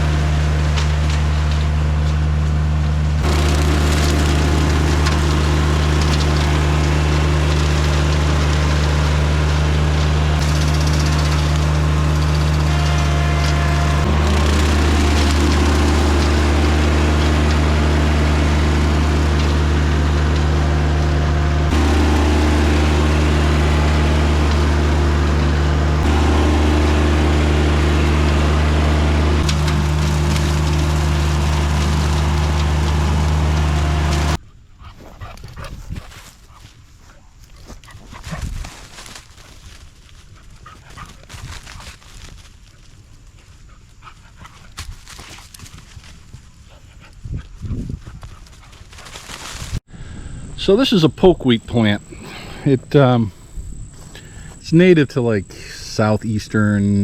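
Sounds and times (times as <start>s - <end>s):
tractor engine running: 0.0s - 34.4s, 35.2s - 57.0s.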